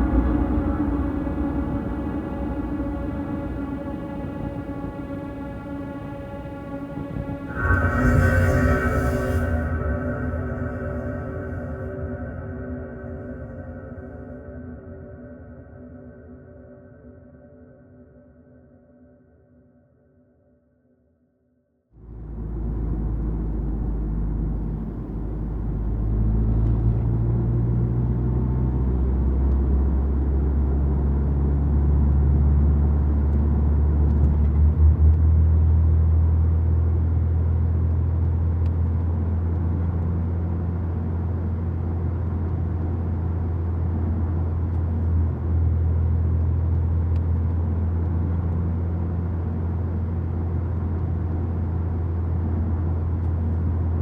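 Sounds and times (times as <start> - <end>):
faint shifting hum: 0.0 - 11.9, 22.0 - 54.0
deep low drone: 0.0 - 16.6, 22.0 - 54.0.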